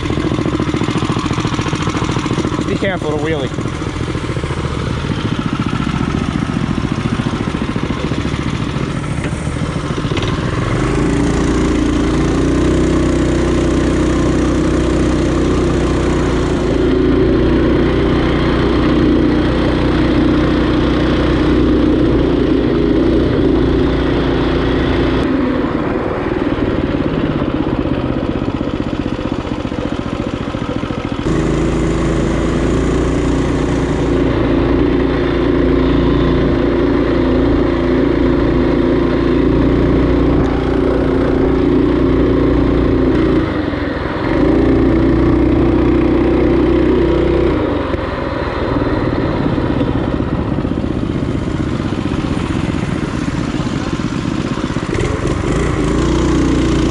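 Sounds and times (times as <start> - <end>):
trail bike engines running: 0.0 - 56.9.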